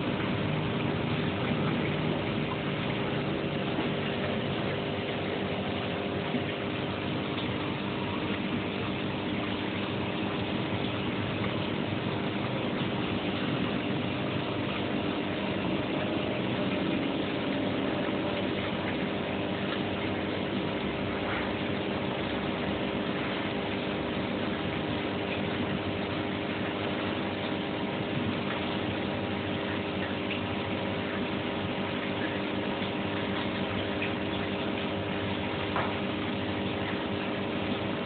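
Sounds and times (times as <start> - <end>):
aquarium equipment humming: 0.0 - 38.0.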